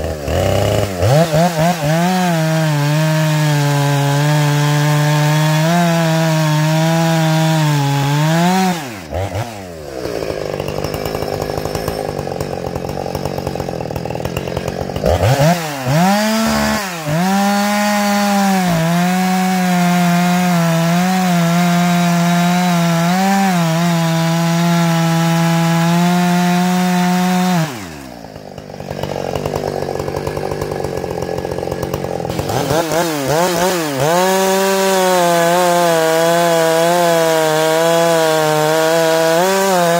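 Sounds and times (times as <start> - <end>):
chainsaw running at full throttle: 0.0 - 39.9.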